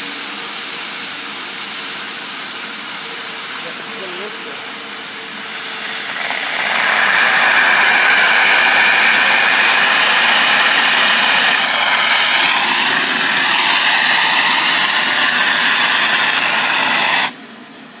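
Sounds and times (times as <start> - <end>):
hose discharging with rushing hiss: 0.0 - 17.4.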